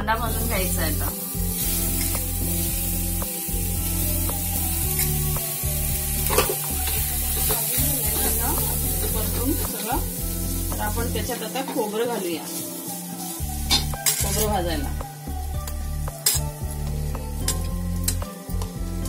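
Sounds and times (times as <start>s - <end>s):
background music with bass: 0.0s - 19.0s
onions sizzling in a pan: 0.0s - 19.0s.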